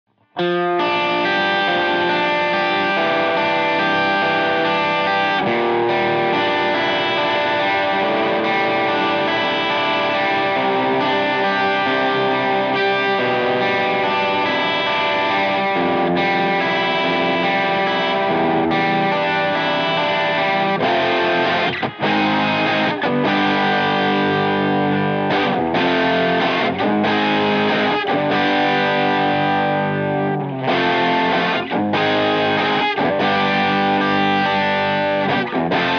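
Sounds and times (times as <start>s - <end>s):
overdriven electric guitar riff: 0.1s - 35.9s.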